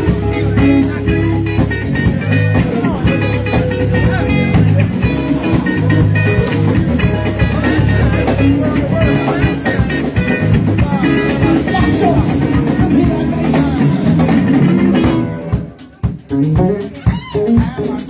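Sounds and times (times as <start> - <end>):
bass and drums: 0.0 - 18.0
electric guitar: 0.0 - 18.0.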